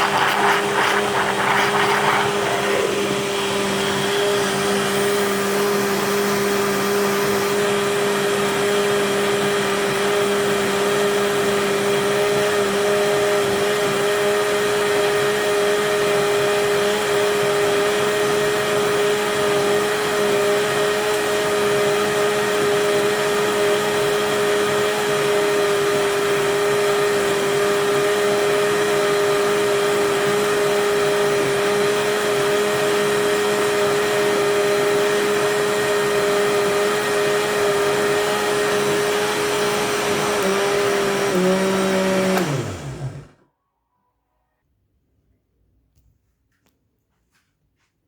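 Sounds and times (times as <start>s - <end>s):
blender motor whine: 0.0s - 43.4s.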